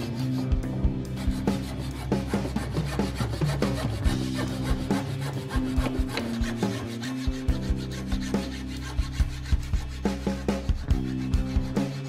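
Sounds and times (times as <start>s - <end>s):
background music: 0.0s - 12.0s
hacksaw rasping through wood: 1.2s - 12.0s.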